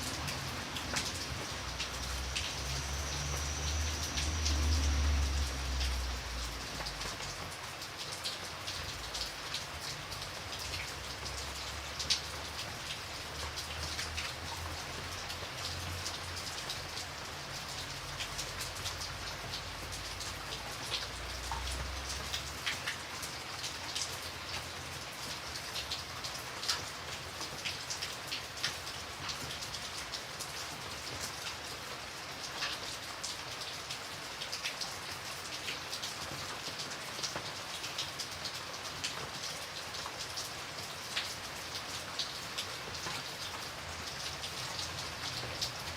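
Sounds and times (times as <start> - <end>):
rain drops ticking on surface: 0.0 - 45.9.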